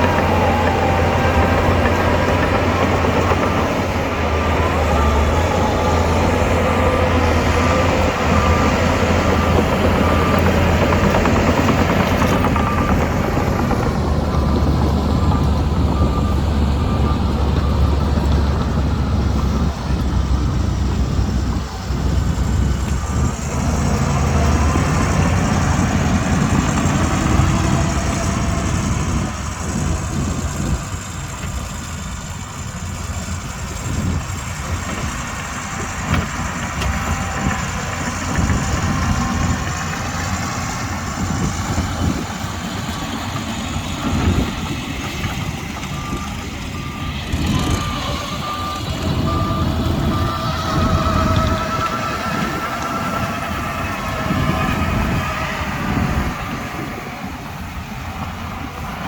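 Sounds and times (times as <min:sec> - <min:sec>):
reversing alarm beeping: 0:00.0 - 0:30.8, 0:33.9 - 0:56.4
bulldozer diesel engine rumbling: 0:00.0 - 0:59.0.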